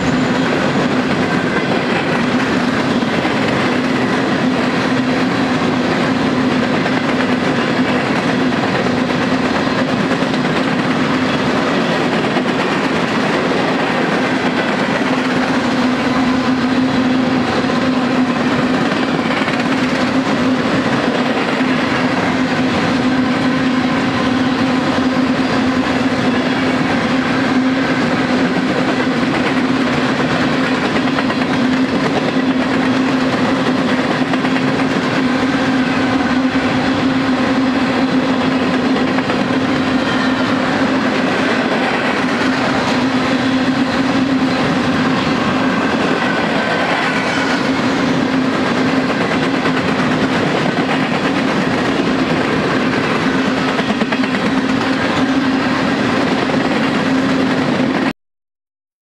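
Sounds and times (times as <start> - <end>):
train wheels rolling on rails: 0.0 - 58.1.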